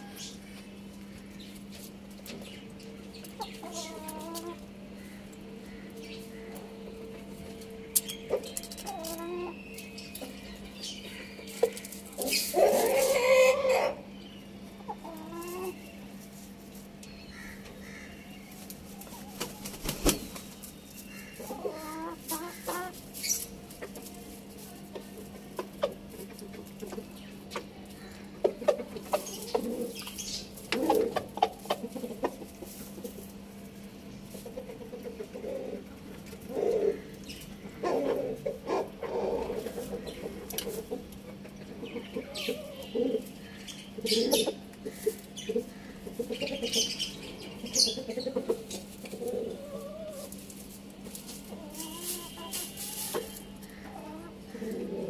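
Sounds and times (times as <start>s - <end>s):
chickens clucking: 0.0s - 55.0s
steady low hum: 0.0s - 55.0s.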